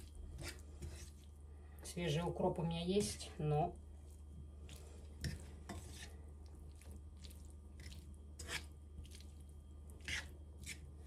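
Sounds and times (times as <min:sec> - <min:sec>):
pasta squelching: 0:00.0 - 0:11.0.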